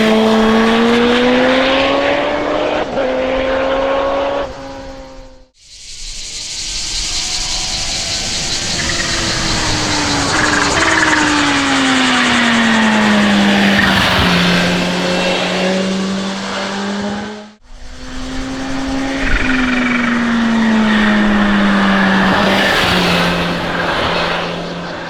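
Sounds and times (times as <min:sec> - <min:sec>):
cicadas buzzing: 0:00.0 - 0:01.9, 0:03.8 - 0:25.0
motorcycle engine running: 0:00.0 - 0:03.5, 0:06.4 - 0:25.0.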